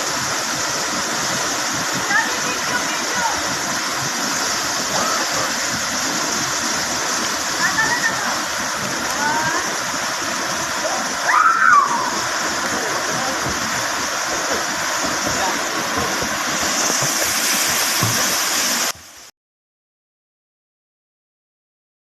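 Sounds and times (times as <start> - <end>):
waterfall rushing: 0.0 - 19.3.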